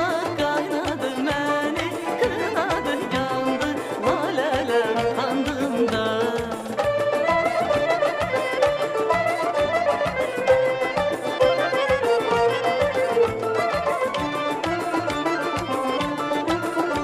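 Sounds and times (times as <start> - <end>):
folk melody: 0.0 - 17.0.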